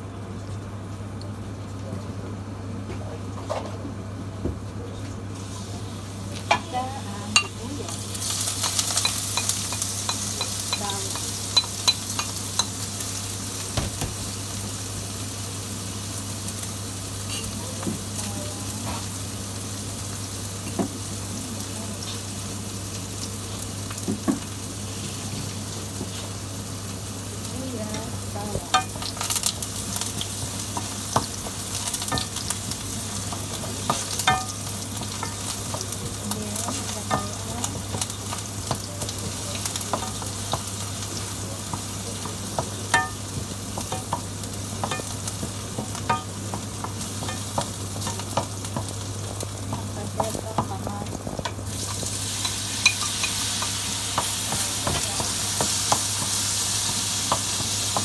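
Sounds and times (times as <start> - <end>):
food sizzling in a pan: 5.2 - 58.0.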